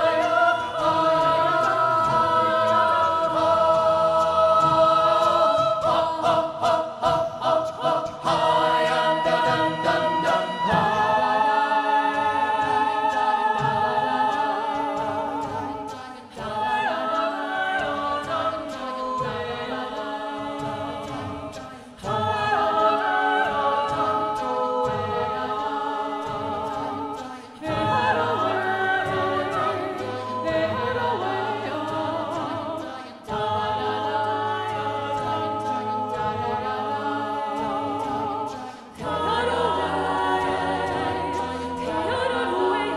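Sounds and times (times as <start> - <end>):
youth choir singing: 0.0 - 42.9.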